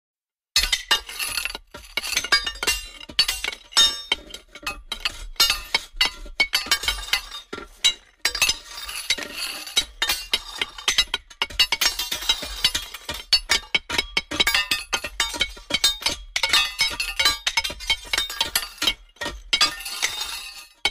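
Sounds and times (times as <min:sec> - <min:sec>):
stone striking metal: 0:00.6 - 0:20.9.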